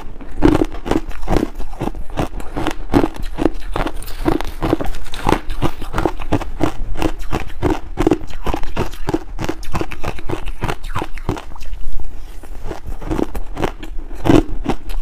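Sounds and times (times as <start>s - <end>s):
chewing crushed ice: 0.0s - 11.8s, 12.4s - 15.0s.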